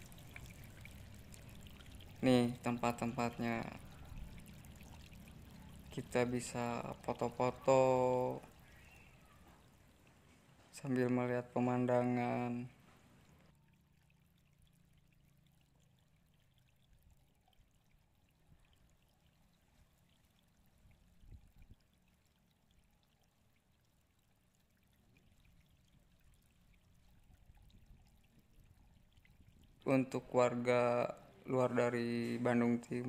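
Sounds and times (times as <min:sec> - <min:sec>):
faint low hum and hiss: 0:00.0 - 0:33.0.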